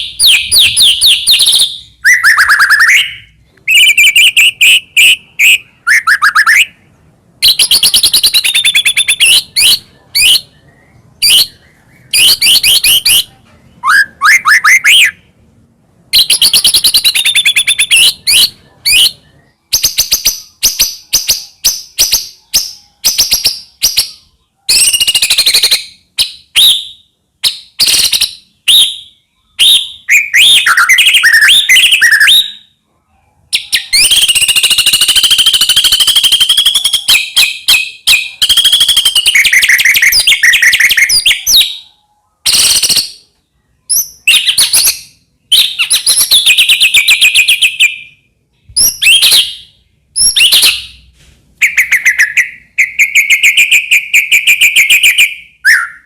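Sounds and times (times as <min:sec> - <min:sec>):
bird singing trills and whistles: 0:00.0 - 0:15.3, 0:16.1 - 0:32.8, 0:33.4 - 0:56.0.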